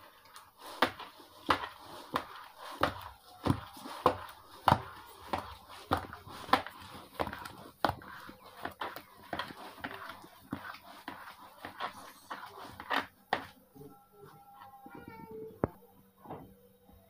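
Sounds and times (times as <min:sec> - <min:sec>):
hand mixing flour in plastic bowl: 0:00.0 - 0:13.8.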